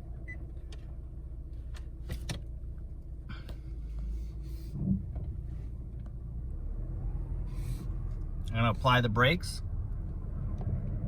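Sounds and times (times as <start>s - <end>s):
car engine running at low speed: 0.0s - 11.0s.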